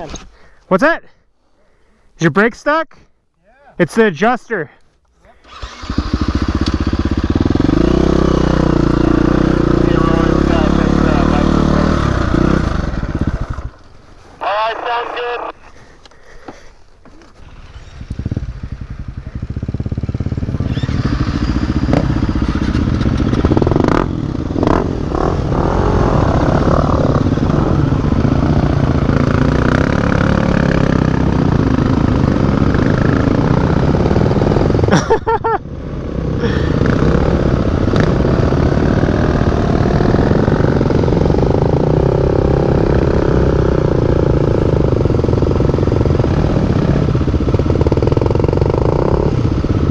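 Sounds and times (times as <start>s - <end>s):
dirt bike engine pulling away: 5.4s - 49.9s.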